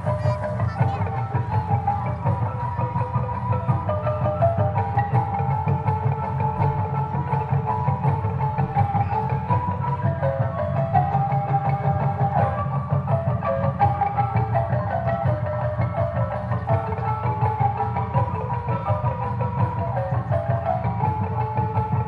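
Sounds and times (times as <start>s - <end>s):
continuous drumming: 0.0s - 22.0s
mallet percussion melody: 0.0s - 22.0s.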